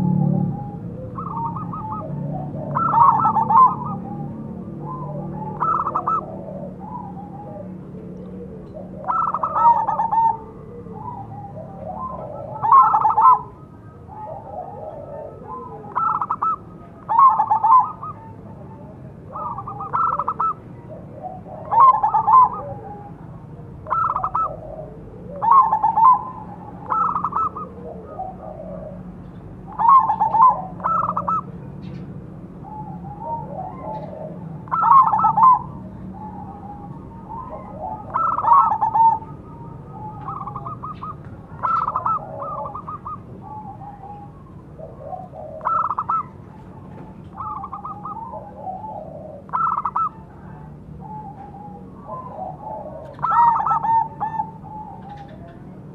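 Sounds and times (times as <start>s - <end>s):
dove cooing loudly: 0.0s - 31.7s, 32.5s - 55.9s
softer lower dove coos: 0.0s - 31.8s, 32.6s - 55.9s.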